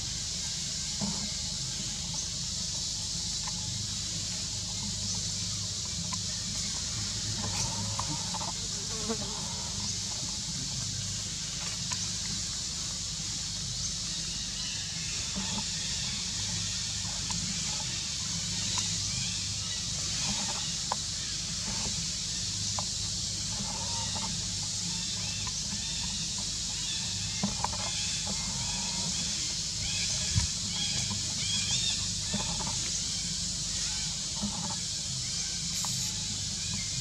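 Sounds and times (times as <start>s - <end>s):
high-pitched insect drone: 0.0s - 37.0s.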